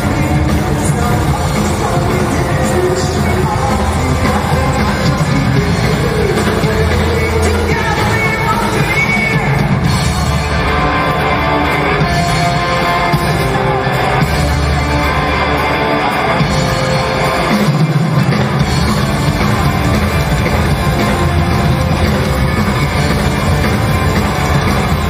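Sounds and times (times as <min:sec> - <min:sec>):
drum kit: 0:00.0 - 0:25.0
electric guitar: 0:00.0 - 0:25.0.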